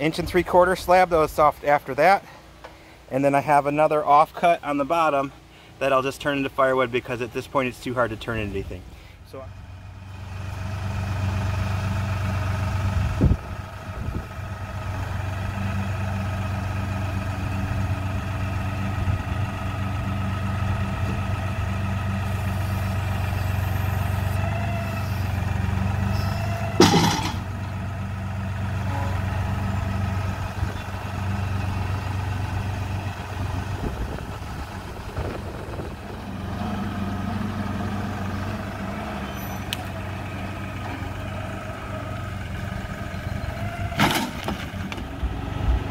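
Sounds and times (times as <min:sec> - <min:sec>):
tractor diesel engine running: 0:04.2 - 0:45.9.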